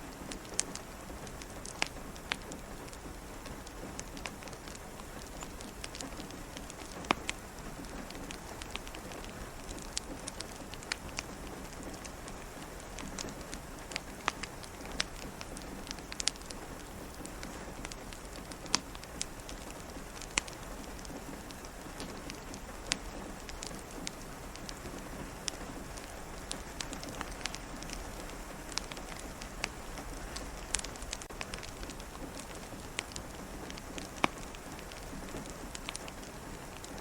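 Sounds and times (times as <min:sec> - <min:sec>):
rain pattering against a window: 0:00.0 - 0:37.0
wood fire crackling: 0:00.0 - 0:37.0.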